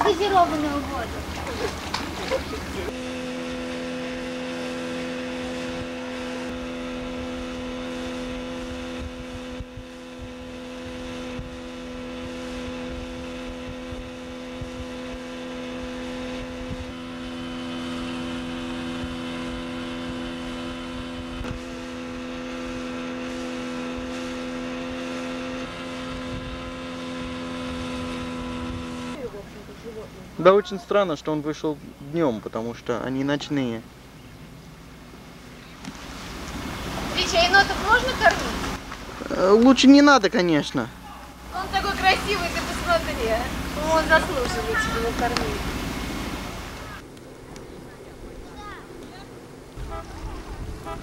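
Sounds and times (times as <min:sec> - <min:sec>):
outboard motor droning: 0:00.0 - 0:51.0.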